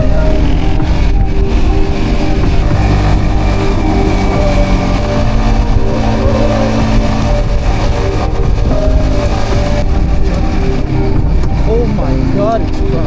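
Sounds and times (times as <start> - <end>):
music playing: 0.0 - 13.0
vehicle running rumble: 0.0 - 13.0.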